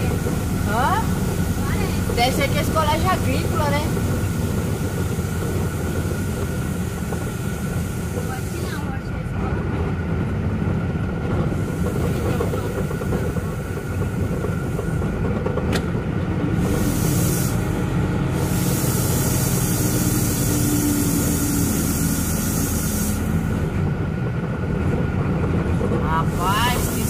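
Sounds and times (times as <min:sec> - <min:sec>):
road noise: 0:00.0 - 0:27.0
truck engine drone: 0:00.0 - 0:27.0.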